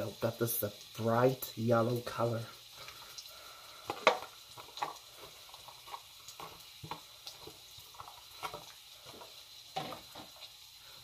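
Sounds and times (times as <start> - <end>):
onions popping in hot oil: 0.0 - 11.0.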